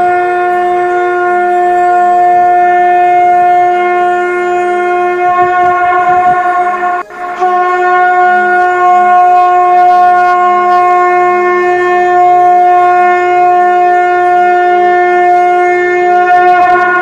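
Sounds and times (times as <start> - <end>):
conch shell blown: 0.0 - 17.0
faint pulsing low accompaniment: 0.0 - 17.0.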